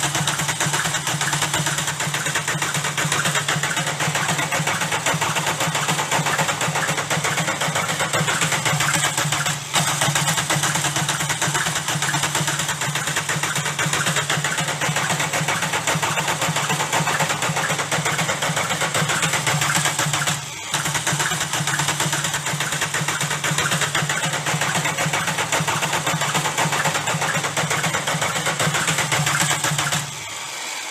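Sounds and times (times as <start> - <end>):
diesel engine knocking: 0.0 - 30.3.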